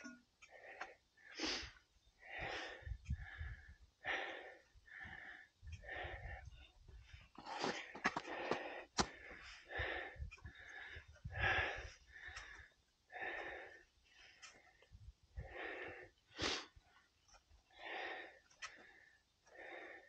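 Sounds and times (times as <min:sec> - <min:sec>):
person breathing hard: 0:00.4 - 0:16.8, 0:17.7 - 0:20.0.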